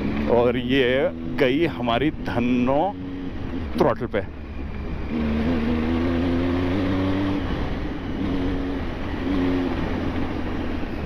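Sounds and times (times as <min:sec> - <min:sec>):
motorcycle engine revving: 0:00.0 - 0:11.0
wind and road noise: 0:00.0 - 0:11.0.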